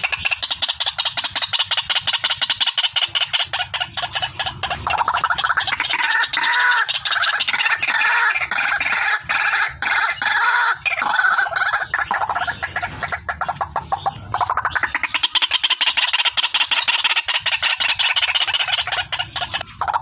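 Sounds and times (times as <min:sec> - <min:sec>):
waterhen harsh croaking call: 0:00.0 - 0:20.0.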